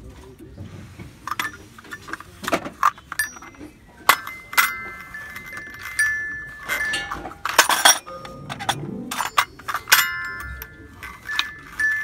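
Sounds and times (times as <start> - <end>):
hard objects clinking and knocking: 1.1 - 12.0.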